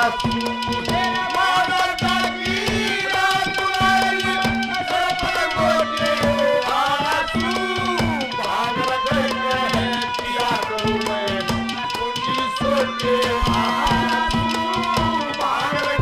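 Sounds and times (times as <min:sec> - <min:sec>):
clay pot struck rhythmically: 0:00.0 - 0:16.0
hand drums: 0:00.0 - 0:16.0
harmonium melody: 0:00.0 - 0:16.0.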